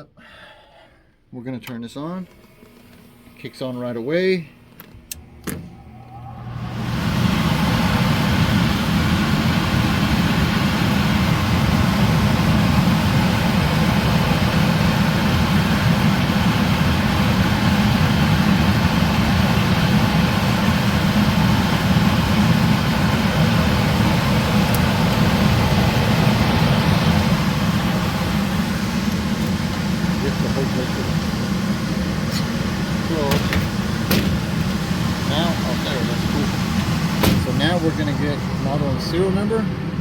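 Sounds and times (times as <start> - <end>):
furnace blower whooshing: 1.9 - 40.0.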